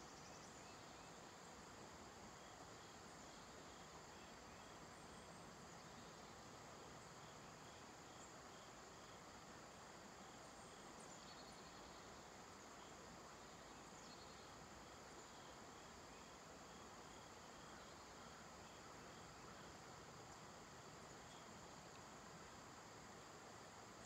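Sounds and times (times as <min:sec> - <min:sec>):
insects chirping: 0:00.0 - 0:24.0
soft hiss: 0:00.0 - 0:24.0.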